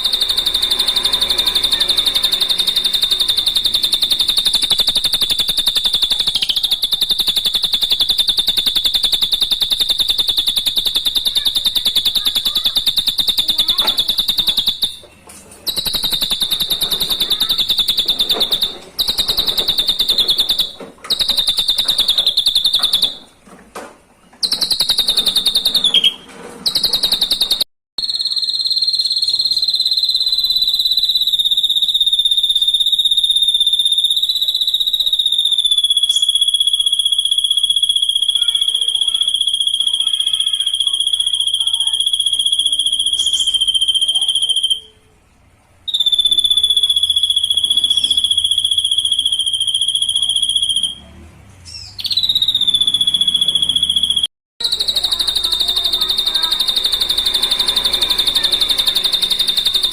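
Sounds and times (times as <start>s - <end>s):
bird steady higher note: 0.0s - 15.1s, 15.7s - 23.3s, 24.4s - 45.0s, 52.0s - 59.9s
bird high fast trill: 0.0s - 23.4s, 24.4s - 45.1s, 45.8s - 51.0s, 51.7s - 59.9s.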